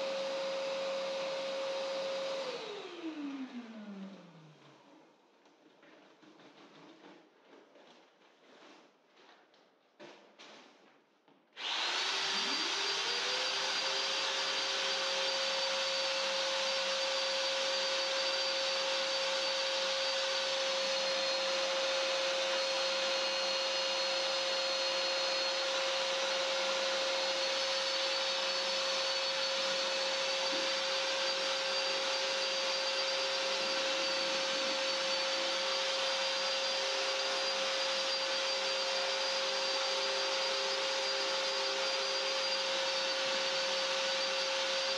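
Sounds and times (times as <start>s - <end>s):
electric drill mixer whining: 0.0s - 4.5s, 11.6s - 44.9s.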